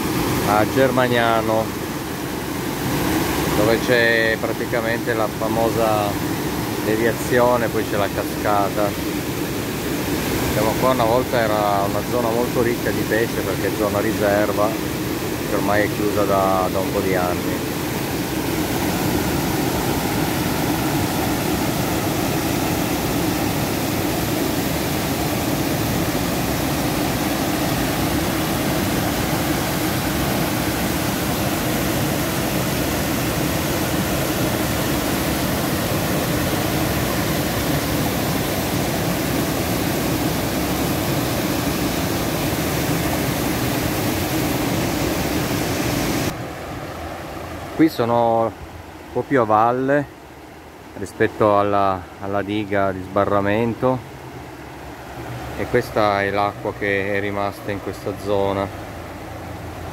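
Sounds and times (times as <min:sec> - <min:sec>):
water rushing over weir: 0:00.0 - 0:59.9.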